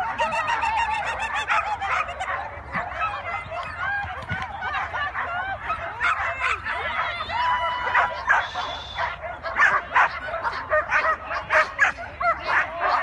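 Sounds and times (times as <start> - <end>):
dogs barking: 0.0 - 13.0
dogs whining yelps: 0.0 - 13.0.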